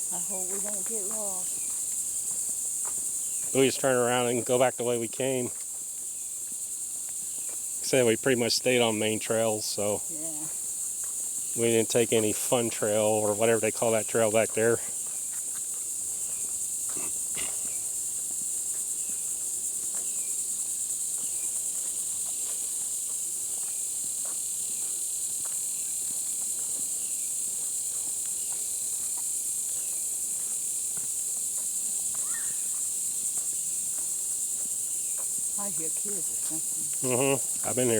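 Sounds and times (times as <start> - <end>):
footsteps on dirt trail: 0.0 - 4.3, 5.4 - 7.8, 10.4 - 11.6, 13.8 - 37.9
insect chorus drone: 0.0 - 37.9.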